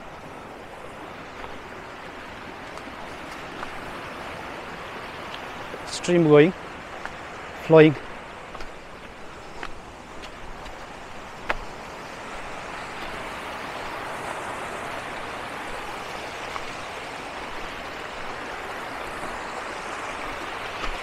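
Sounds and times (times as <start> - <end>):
stream rushing over boulders: 0.0 - 21.0.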